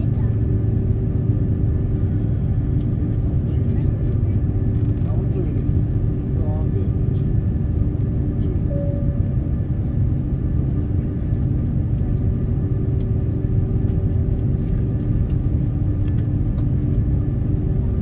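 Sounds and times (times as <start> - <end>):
airliner engine rumble: 0.0 - 18.0
low hum: 0.0 - 18.0.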